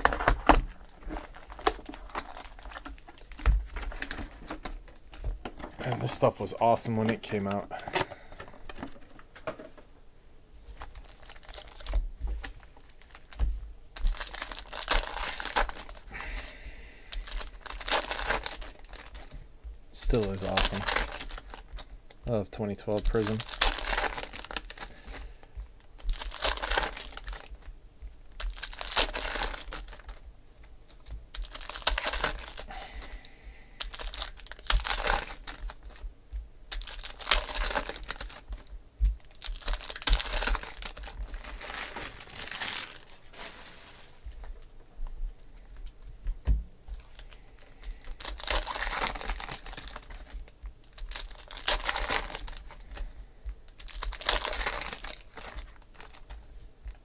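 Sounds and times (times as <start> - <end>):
foil wrappers crinkling and tearing: 0.0 - 9.1, 10.7 - 13.4, 14.0 - 19.4, 20.0 - 36.1, 36.7 - 44.6, 46.9 - 57.0.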